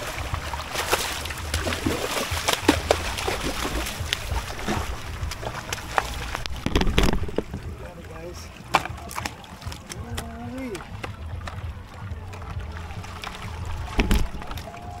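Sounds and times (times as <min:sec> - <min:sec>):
water sloshing beside kayak: 0:00.0 - 0:15.0.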